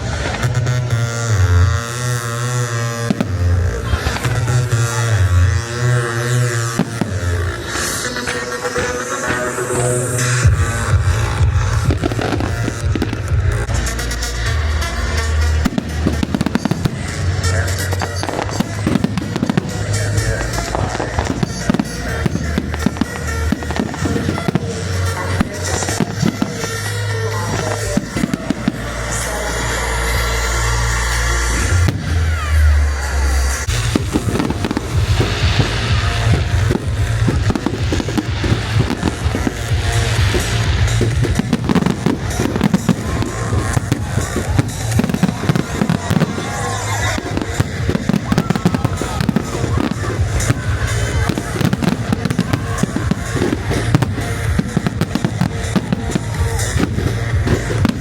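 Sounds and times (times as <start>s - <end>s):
fireworks bangs and crackles: 0.0s - 58.0s
music playing: 0.0s - 58.0s.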